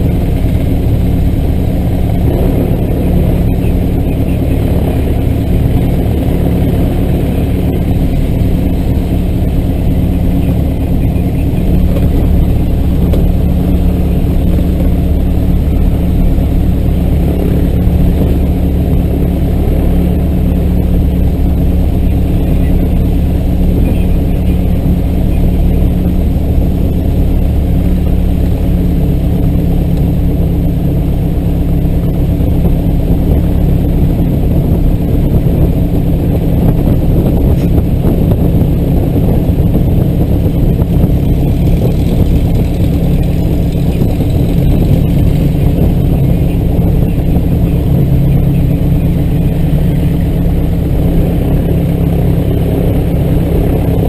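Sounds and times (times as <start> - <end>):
propeller aircraft engine running: 0.0 - 54.0.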